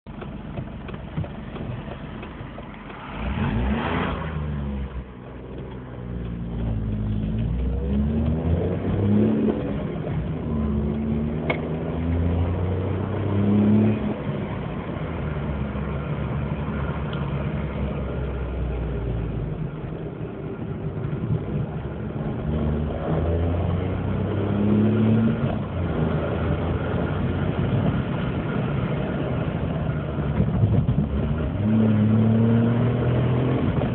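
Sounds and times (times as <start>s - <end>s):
car engine starting and revving: 0.1s - 33.9s.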